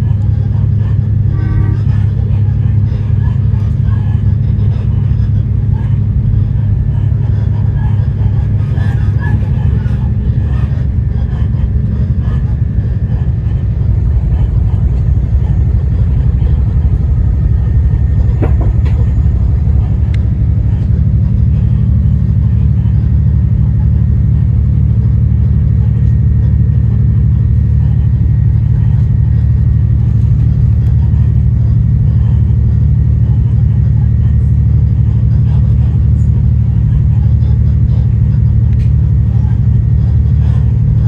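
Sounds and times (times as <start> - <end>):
railcar engine rumble: 0.0 - 41.0.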